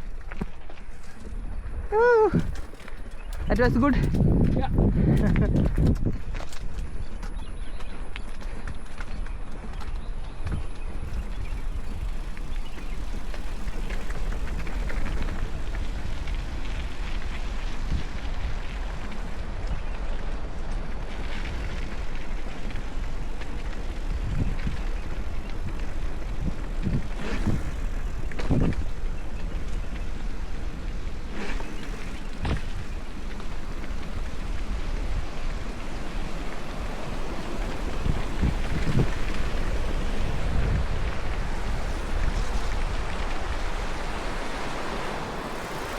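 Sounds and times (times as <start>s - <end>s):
bike rattling: 0.0s - 45.9s
wind rumbling on microphone: 0.0s - 45.9s
tyres crunching: 2.3s - 45.9s.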